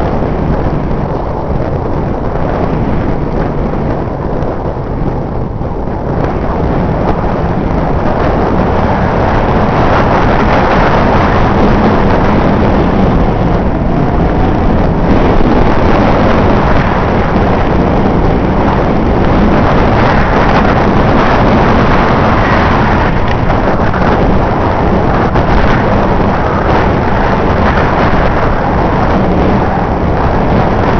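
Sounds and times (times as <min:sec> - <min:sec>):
loud engine running: 0:00.0 - 0:30.9.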